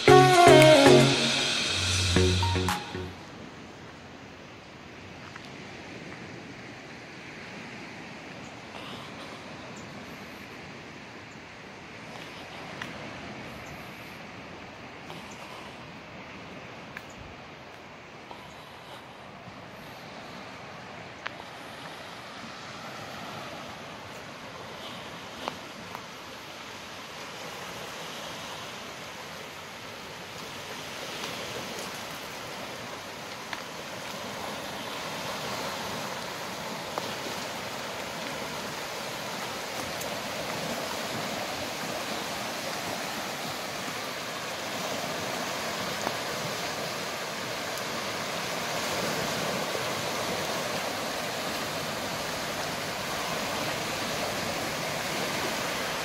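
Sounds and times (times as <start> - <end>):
small waves lapping on shore: 3.2 - 56.0.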